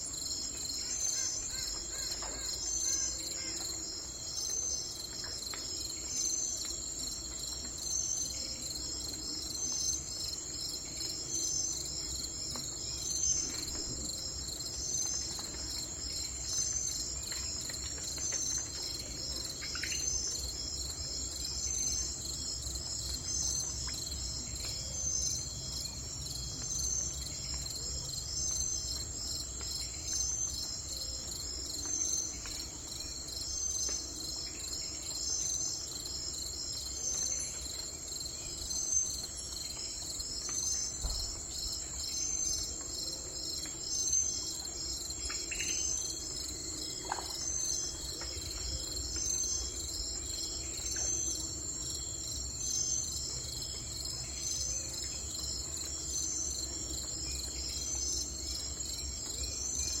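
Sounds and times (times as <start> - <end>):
insects chirping: 0.1 - 60.0.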